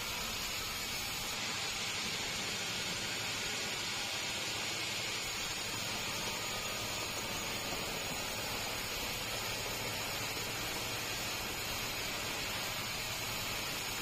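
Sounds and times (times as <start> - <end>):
sawmill machinery hissing: 0.0 - 14.0.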